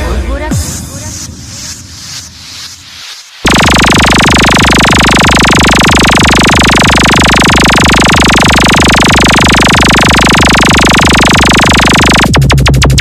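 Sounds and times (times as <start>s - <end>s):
electronic music with pulsing bass: 0.5s - 13.0s.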